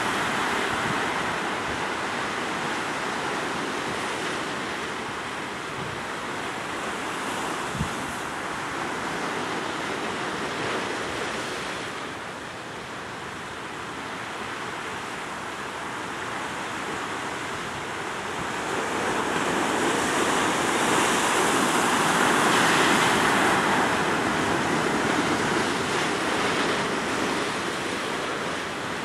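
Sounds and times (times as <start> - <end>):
ocean waves washing: 0.0 - 29.0.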